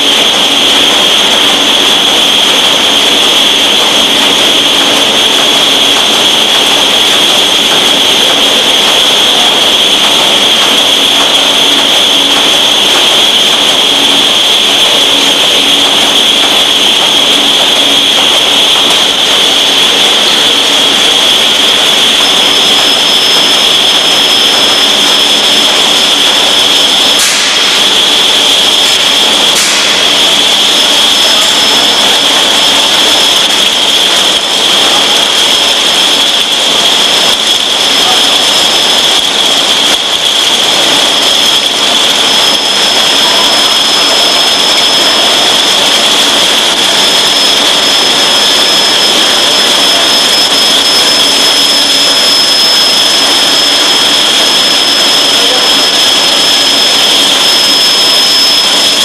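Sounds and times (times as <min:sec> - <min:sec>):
machinery whirring with high whine: 0:00.0 - 0:59.0.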